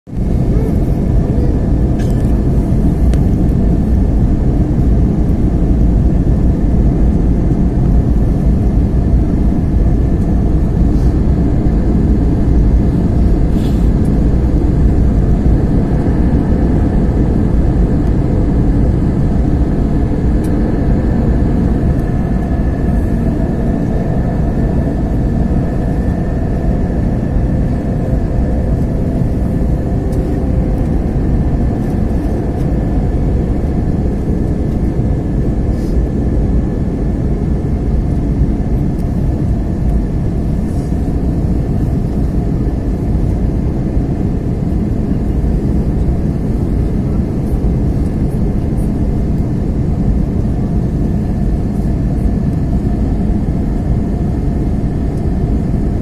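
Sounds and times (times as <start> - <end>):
jet engine cabin rumble: 0.1 - 56.0.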